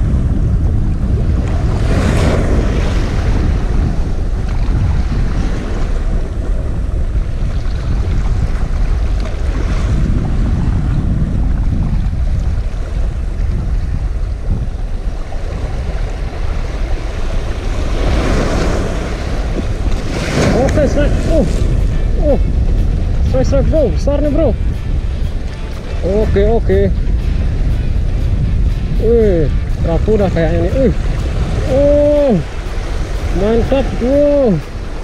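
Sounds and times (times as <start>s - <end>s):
wind buffeting microphone: 0.0s - 35.0s
waves breaking on rocks: 1.2s - 10.8s, 12.0s - 24.5s, 29.0s - 35.0s.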